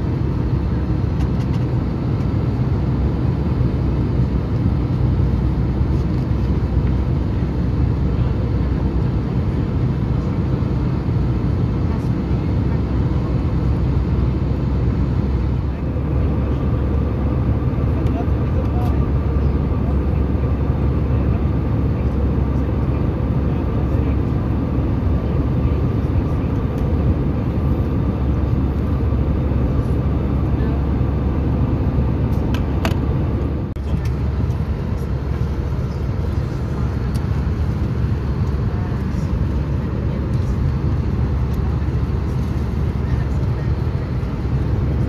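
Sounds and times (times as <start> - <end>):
aircraft cabin rumble and hum: 0.0 - 45.0.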